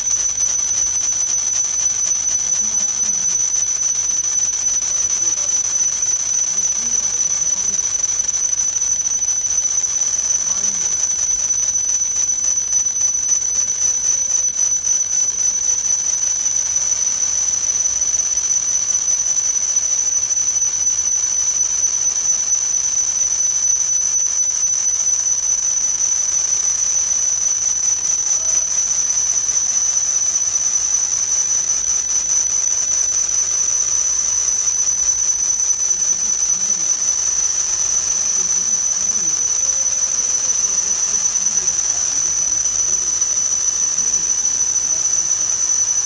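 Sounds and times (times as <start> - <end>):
laser machine whine: 0.0 - 46.0.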